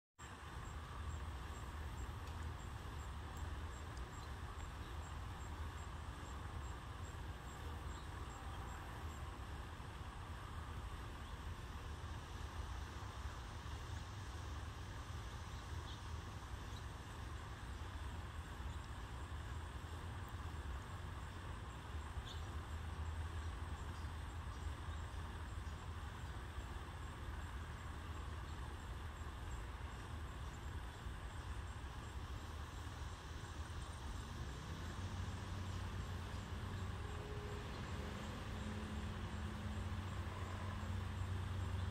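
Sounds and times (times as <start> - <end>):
low rumble with hiss: 0.2 - 41.9.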